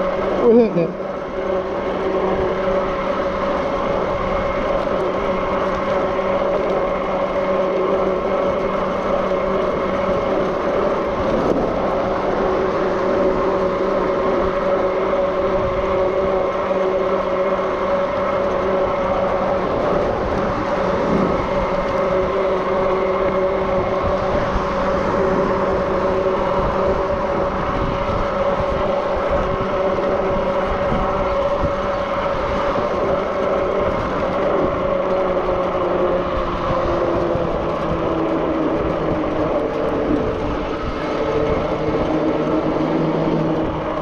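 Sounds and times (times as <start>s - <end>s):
electric motor whine: 0.0s - 44.0s
wind and tyre rumble: 0.0s - 44.0s.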